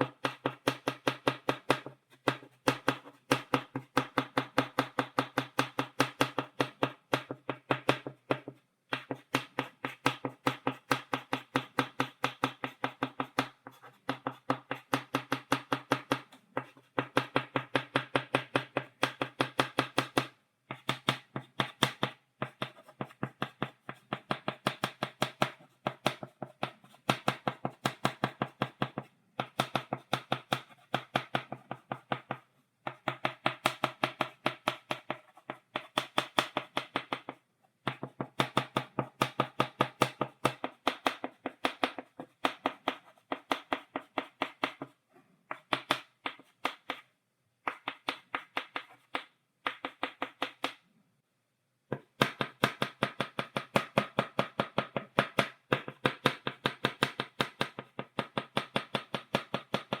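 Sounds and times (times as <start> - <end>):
chalk tapping on blackboard: 0.0 - 50.9, 51.9 - 60.0.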